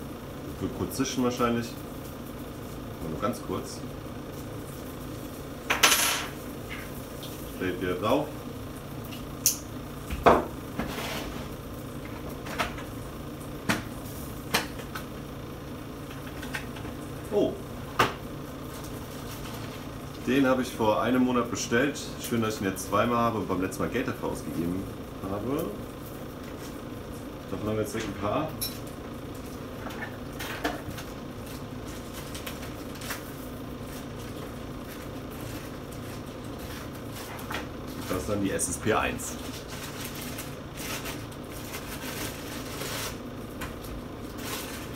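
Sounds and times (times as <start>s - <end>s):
low room hum: 0.0s - 44.9s.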